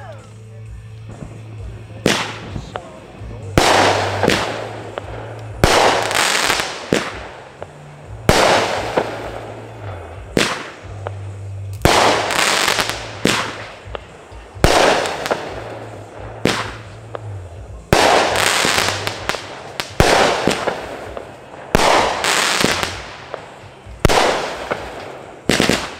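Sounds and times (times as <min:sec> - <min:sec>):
fireworks bangs: 0:01.0 - 0:25.9.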